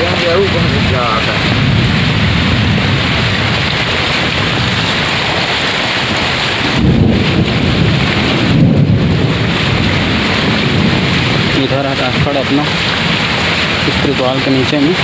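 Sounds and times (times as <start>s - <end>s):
heavy rain pouring: 0.0s - 15.0s
low rumble: 0.0s - 15.0s
muddy water splashing: 0.0s - 15.0s.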